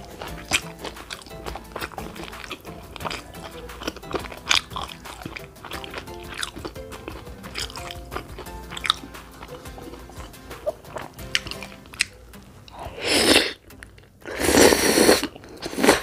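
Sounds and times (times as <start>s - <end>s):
background music: 0.0s - 16.0s
sharp mouth clicks: 0.0s - 16.0s
wet chewing sounds: 0.0s - 16.0s.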